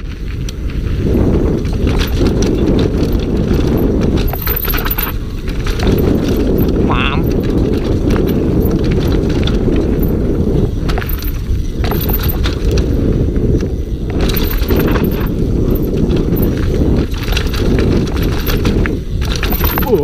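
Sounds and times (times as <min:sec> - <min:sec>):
bike tyres rumbling over dirt: 0:00.0 - 0:20.0
wind rumble on microphone: 0:00.0 - 0:20.0
chain and frame rattling: 0:01.0 - 0:20.0.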